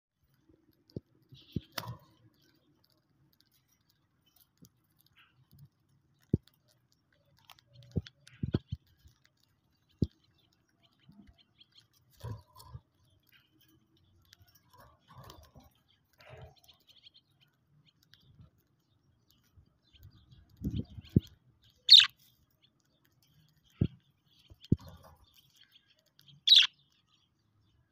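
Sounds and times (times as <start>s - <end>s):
budgerigars cracking seeds: 0.2s - 27.4s.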